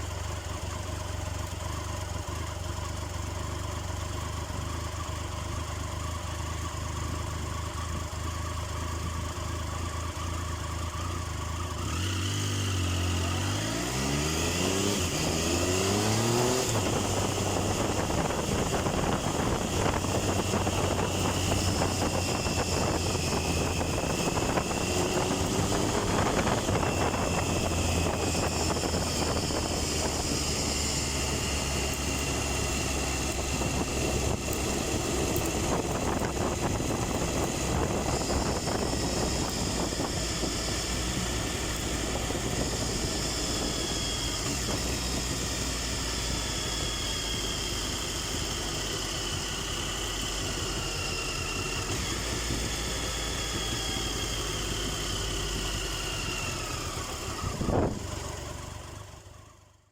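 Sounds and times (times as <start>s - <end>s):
motorcycle engine running at low revs: 0.0s - 59.9s.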